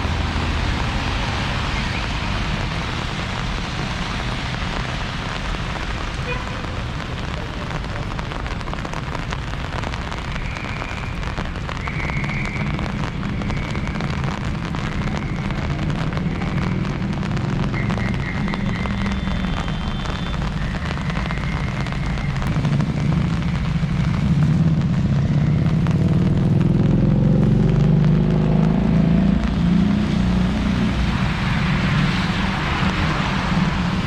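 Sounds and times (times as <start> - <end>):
rain on hard ground: 0.0 - 34.0.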